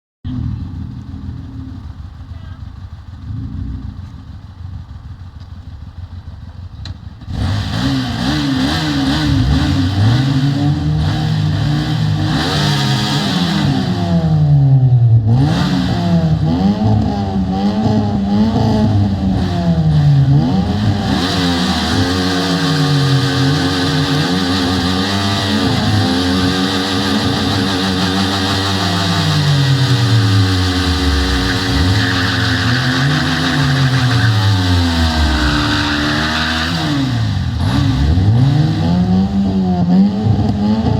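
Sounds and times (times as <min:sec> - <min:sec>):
motorcycle engine revving: 0:00.3 - 0:40.9.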